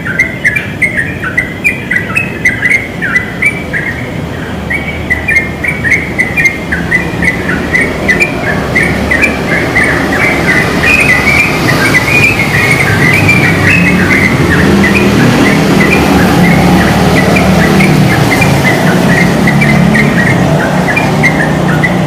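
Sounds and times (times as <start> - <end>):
bird singing bubbly notes: 0.0 - 22.0.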